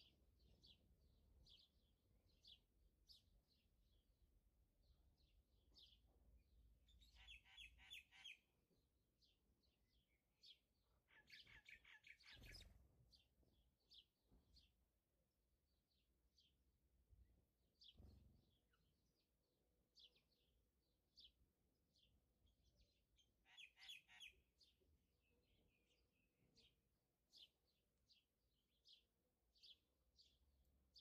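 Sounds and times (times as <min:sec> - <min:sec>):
birds chirping and trilling: 0:00.0 - 0:04.0, 0:04.8 - 0:08.6, 0:09.2 - 0:14.8, 0:15.7 - 0:31.0.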